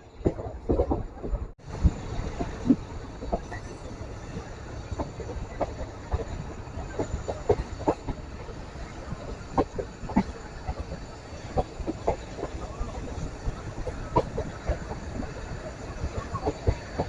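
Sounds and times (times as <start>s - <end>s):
train rumbling on track: 0.0s - 17.0s
wheels clacking and knocking: 0.2s - 17.0s.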